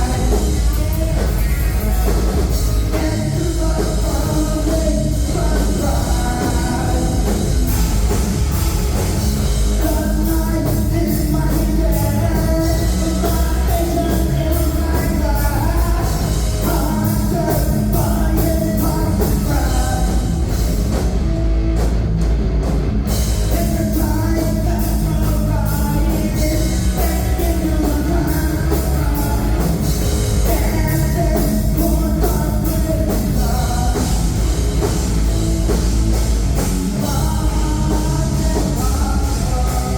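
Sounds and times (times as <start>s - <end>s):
person singing: 0.0s - 8.1s, 9.5s - 20.6s, 23.4s - 34.9s, 36.9s - 39.9s
loud rock band playing: 0.0s - 39.9s.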